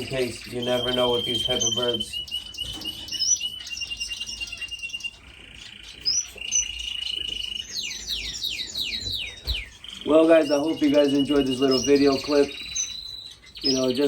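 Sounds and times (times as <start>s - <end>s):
finches chirping and trilling: 0.0s - 14.0s.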